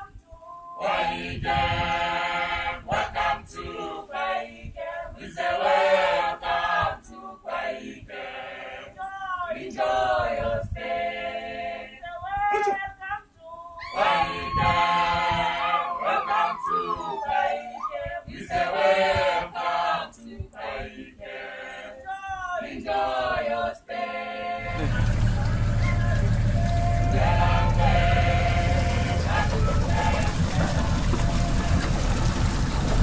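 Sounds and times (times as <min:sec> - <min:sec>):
group singing a cappella: 0:00.0 - 0:33.0.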